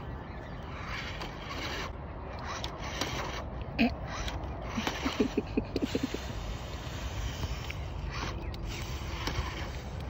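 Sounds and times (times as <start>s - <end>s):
rc car motor and gears grinding: 0.0s - 10.0s.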